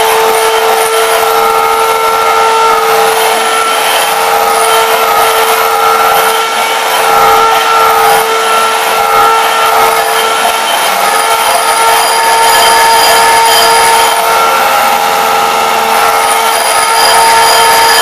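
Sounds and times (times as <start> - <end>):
electric mixer running: 0.0 - 18.0.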